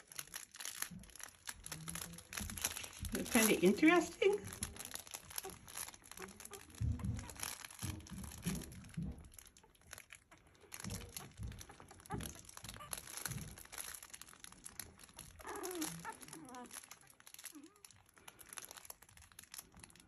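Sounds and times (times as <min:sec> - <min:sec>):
crinkle toy crackling: 0:00.0 - 0:20.0.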